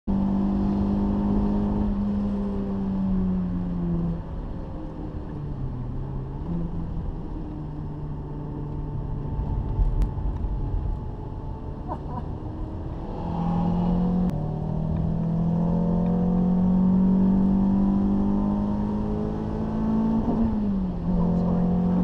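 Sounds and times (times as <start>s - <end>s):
road and tyre noise: 0.0s - 22.0s
car engine revving: 0.1s - 22.0s.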